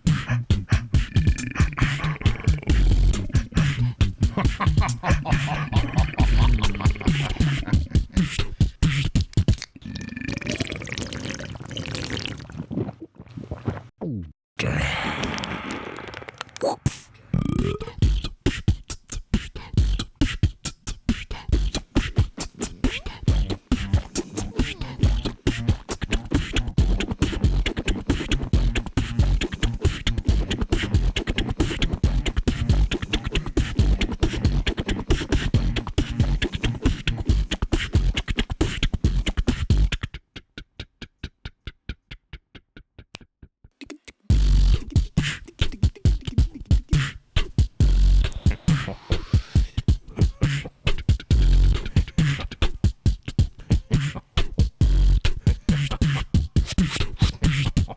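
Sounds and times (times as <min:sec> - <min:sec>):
person beatboxing: 0:00.0 - 0:12.3, 0:14.0 - 0:57.9.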